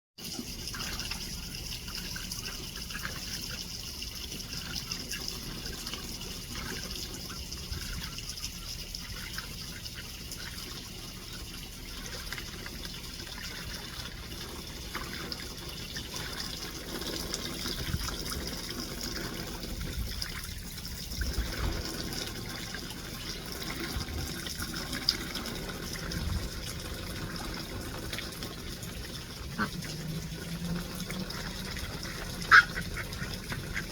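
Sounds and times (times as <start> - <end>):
water trickling and splashing: 0.2 - 33.9.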